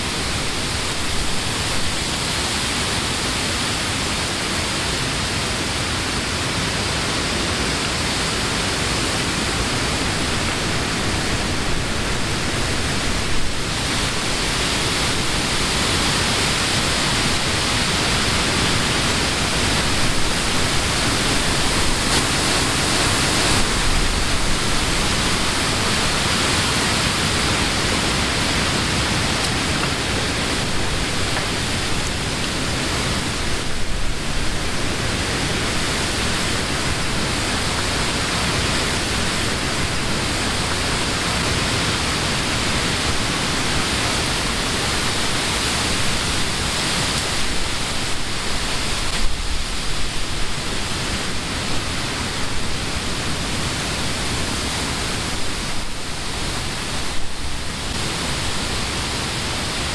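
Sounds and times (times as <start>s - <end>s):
wind rustling tree leaves: 0.0s - 59.9s.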